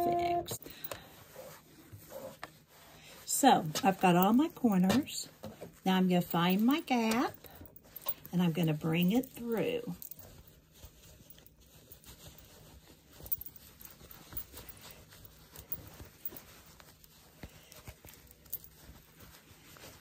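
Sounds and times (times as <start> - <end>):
fabric rustling: 0.0 - 20.0.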